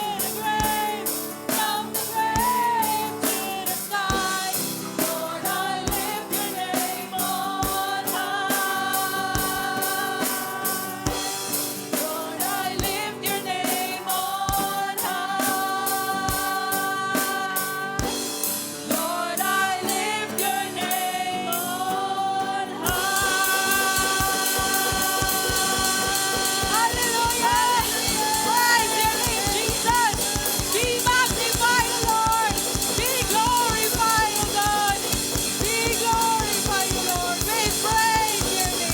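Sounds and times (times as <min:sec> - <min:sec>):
drum kit beat: 0:00.0 - 0:21.9, 0:22.8 - 0:38.9
worship band playing with singing: 0:00.0 - 0:38.9.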